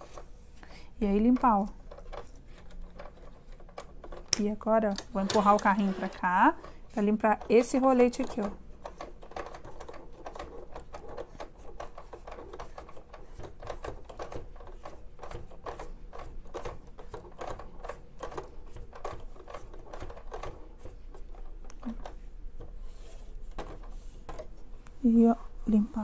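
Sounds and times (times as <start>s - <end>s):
wet wipe clicking and scraping: 1.1s - 26.0s.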